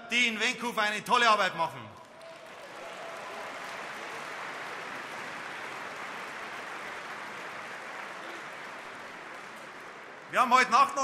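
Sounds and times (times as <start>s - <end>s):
crowd applauding: 2.0s - 11.0s.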